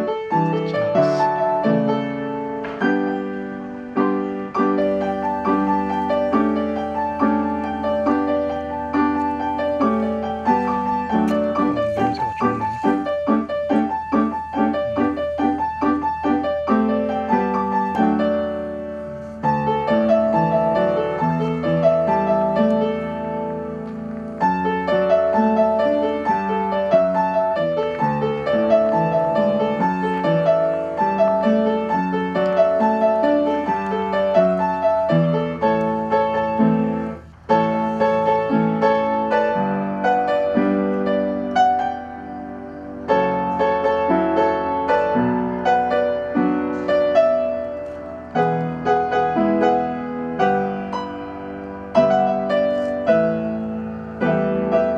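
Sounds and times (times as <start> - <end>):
piano music: 0.0 - 54.9.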